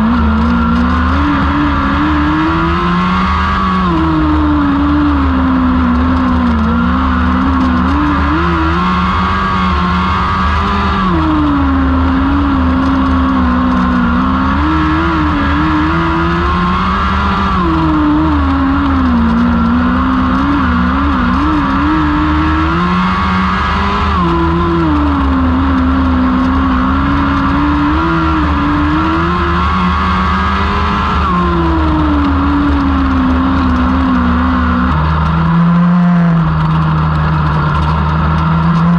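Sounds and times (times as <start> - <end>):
race car engines racing: 0.0 - 38.9.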